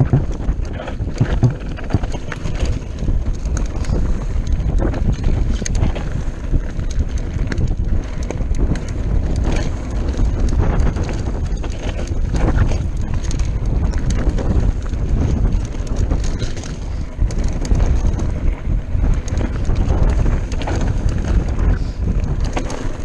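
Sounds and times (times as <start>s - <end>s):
bike rattling and knocking: 0.0s - 23.0s
tyres rumbling on loose stones: 0.0s - 23.0s
wind buffeting microphone: 0.0s - 23.0s.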